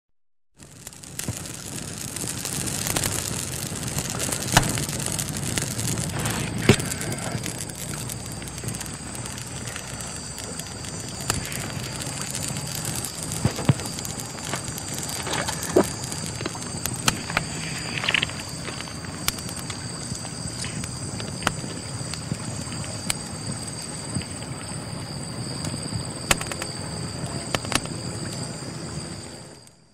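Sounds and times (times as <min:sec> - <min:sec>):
fire popping: 0:00.6 - 0:29.8
campfire crackling: 0:00.6 - 0:29.9.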